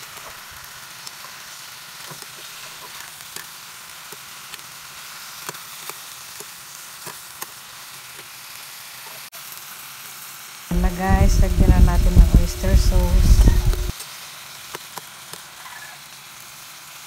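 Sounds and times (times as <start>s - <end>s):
meat and eggplant sizzling: 0.0s - 17.0s.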